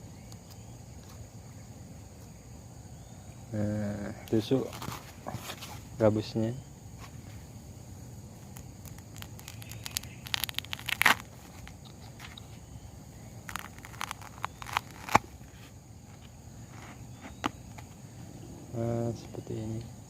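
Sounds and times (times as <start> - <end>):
faint insect drone: 0.0 - 20.0.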